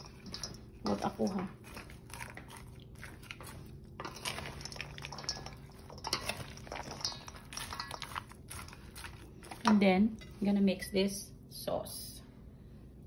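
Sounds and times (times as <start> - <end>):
crunching and scraping in metal bowl: 0.0 - 10.9.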